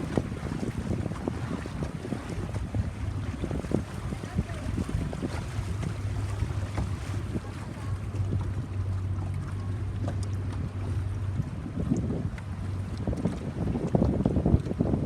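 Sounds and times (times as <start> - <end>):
water rushing past: 0.0 - 13.7
boat engine humming: 0.0 - 15.0
wind buffeting microphone: 0.0 - 15.0.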